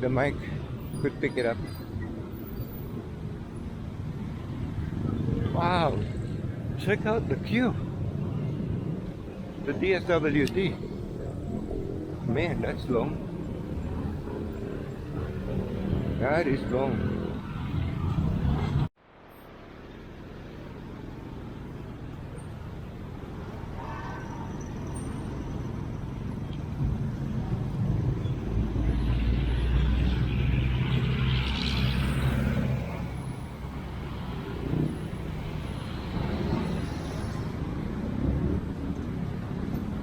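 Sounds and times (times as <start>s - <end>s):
street traffic: 0.0s - 40.0s.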